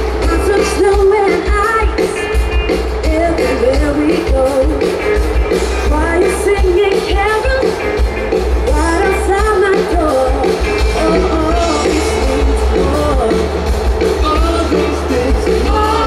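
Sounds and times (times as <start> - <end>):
person singing: 0.0 - 8.0, 8.6 - 16.0
bass guitar: 0.0 - 16.0
drums with steady beat: 0.0 - 16.0
electric guitar: 0.0 - 16.0.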